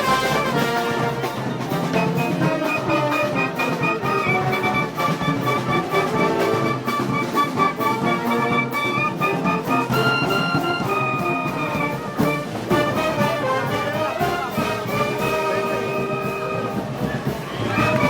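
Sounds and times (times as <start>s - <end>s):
brass band playing: 0.0s - 18.0s
steady percussion beat: 0.0s - 18.0s.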